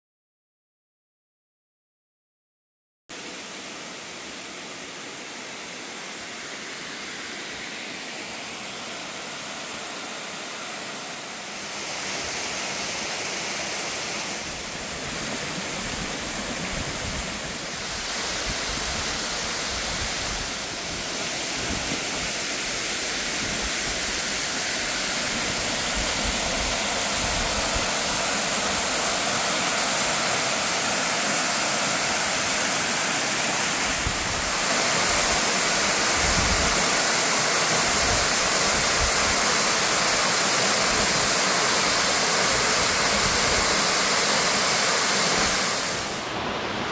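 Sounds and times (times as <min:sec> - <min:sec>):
waterfall rushing: 0:05.1 - 0:46.9.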